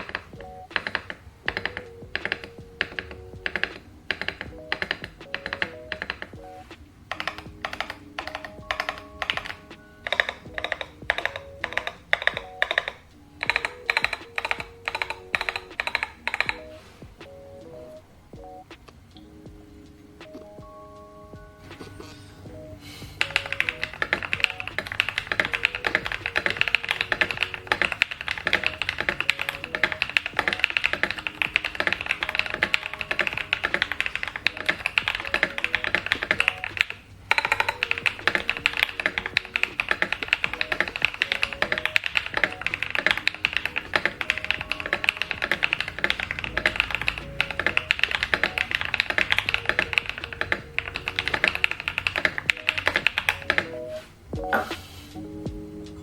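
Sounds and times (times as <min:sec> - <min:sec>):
fast mechanical keyboard typing: 0:00.0 - 0:06.5, 0:07.1 - 0:16.7, 0:23.2 - 0:53.8.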